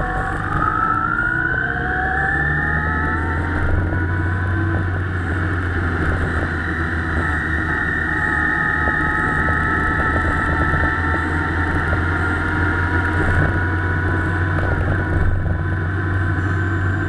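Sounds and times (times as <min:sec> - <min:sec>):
motorcycle engine running: 0:00.0 - 0:17.0
steady low drone: 0:00.0 - 0:17.0.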